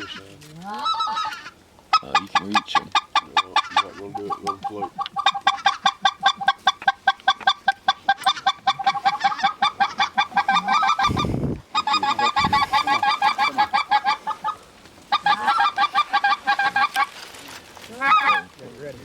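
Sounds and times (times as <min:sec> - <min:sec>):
goose call clucks and honks: 0:00.0 - 0:17.2, 0:17.9 - 0:18.6.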